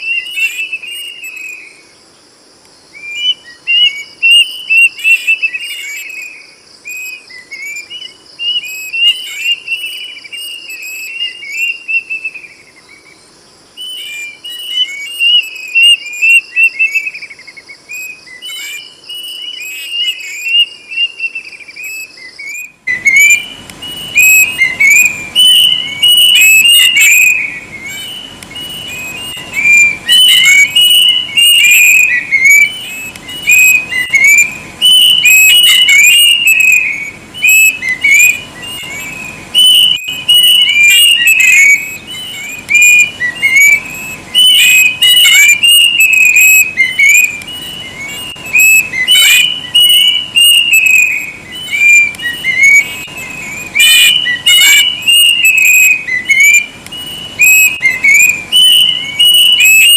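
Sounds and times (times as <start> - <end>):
cuckoo whistling song: 0.0 - 1.9, 2.9 - 59.9
steady high buzz: 0.0 - 59.9.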